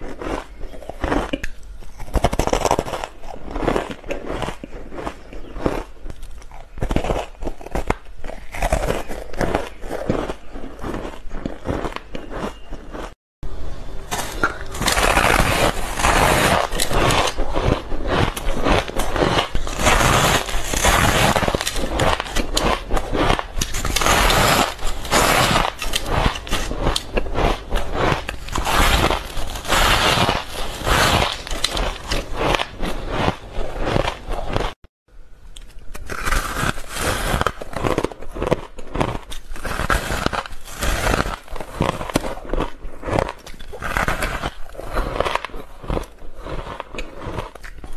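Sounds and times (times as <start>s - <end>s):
ice crunching being chewed: 0.0s - 13.2s, 14.1s - 34.8s, 35.6s - 47.9s.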